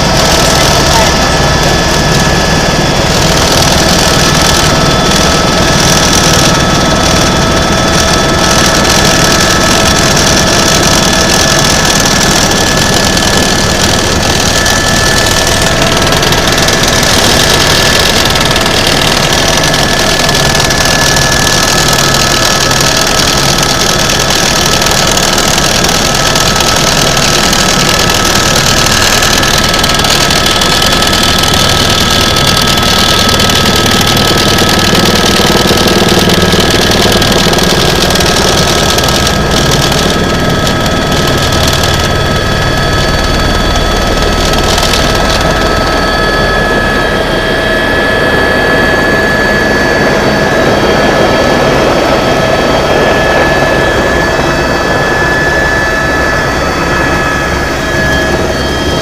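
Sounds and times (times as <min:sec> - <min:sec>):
helicopter engine and rotor: 0:00.0 - 0:59.0
high-pitched whine: 0:00.0 - 0:59.0.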